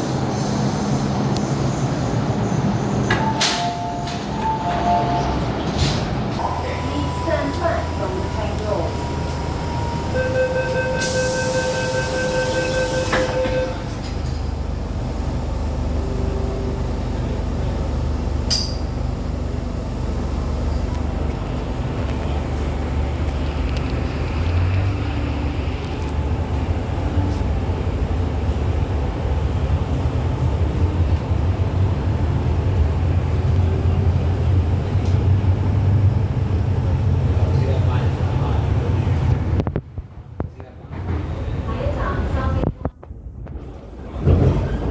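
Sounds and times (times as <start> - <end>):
train running rumble: 0.0 - 44.9.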